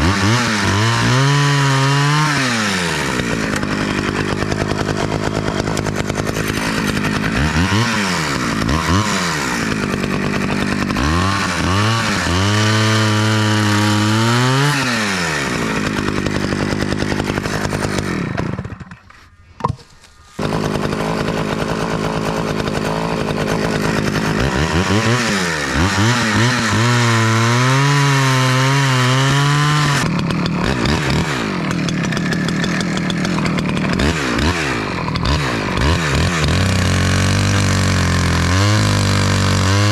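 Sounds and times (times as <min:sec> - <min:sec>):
chainsaw idling and revving: 0:00.0 - 0:19.4, 0:20.1 - 0:39.9
chainsaw cutting wood: 0:00.0 - 0:39.9.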